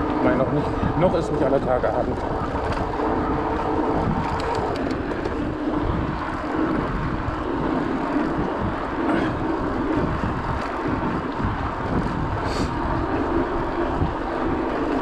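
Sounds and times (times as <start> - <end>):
mountain bike rolling: 0.0 - 15.0
wind on microphone: 0.0 - 15.0.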